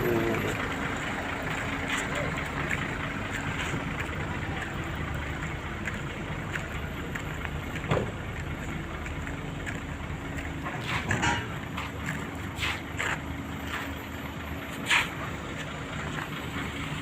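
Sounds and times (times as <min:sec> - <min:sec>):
road-paving machinery engine hum: 0:00.0 - 0:17.0.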